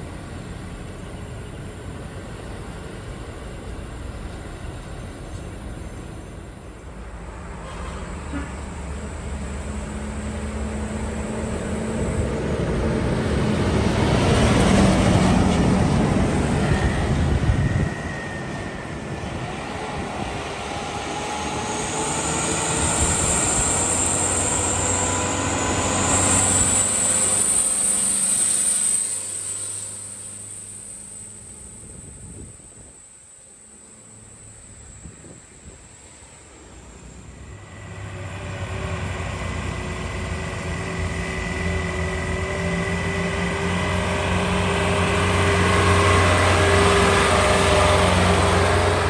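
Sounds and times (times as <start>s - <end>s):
high whine over engine: 0.0s - 49.0s
diesel trucks passing: 2.9s - 31.9s, 36.7s - 49.0s.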